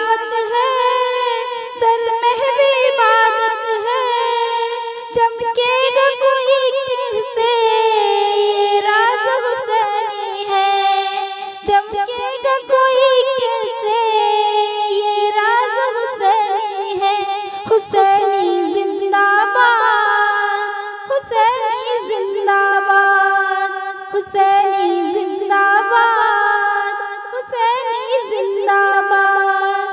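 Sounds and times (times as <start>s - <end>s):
woman singing: 0.0s - 29.9s.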